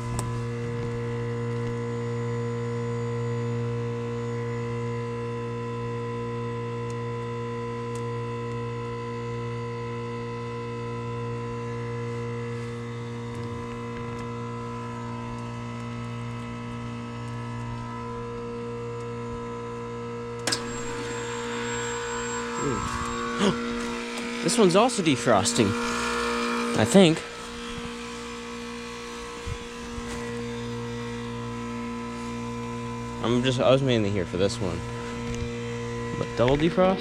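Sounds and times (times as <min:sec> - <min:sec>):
heat pump electrical hum: 0:00.0 - 0:37.0.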